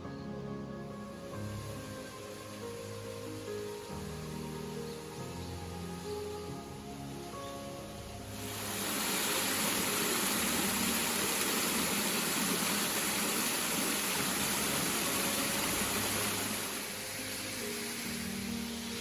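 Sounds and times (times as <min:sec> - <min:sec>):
soft background music: 0:00.0 - 0:19.0
running water: 0:00.9 - 0:19.0.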